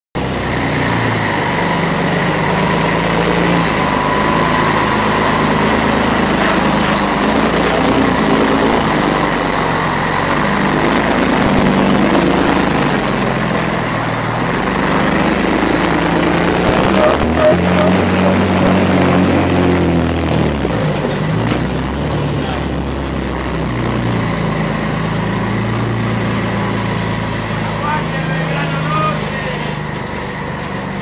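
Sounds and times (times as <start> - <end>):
diesel truck engine drone: 0.2 - 31.0
high whine: 0.2 - 31.0.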